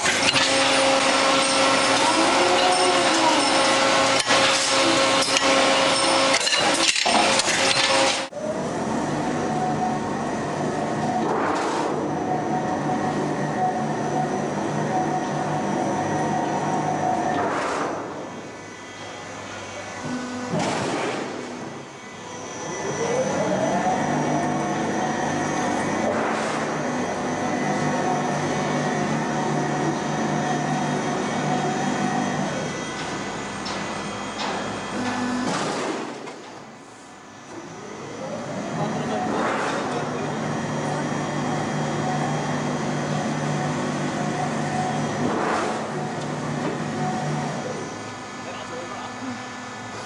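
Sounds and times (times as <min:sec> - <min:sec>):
machine motor whining: 0:00.0 - 0:35.6, 0:37.2 - 0:50.0.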